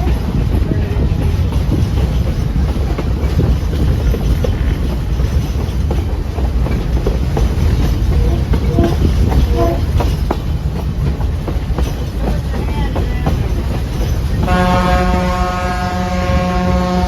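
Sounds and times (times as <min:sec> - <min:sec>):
train rumbling on track: 0:00.0 - 0:17.0
train wheels clicking: 0:00.0 - 0:17.0.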